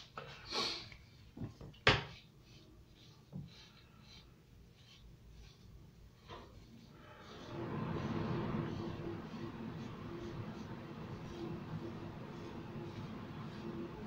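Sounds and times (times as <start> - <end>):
comb stroking through beard: 2.1 - 14.0.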